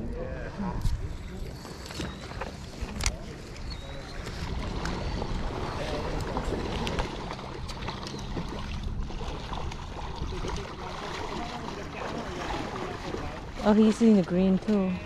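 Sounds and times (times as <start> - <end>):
river water flowing: 1.4 - 15.0.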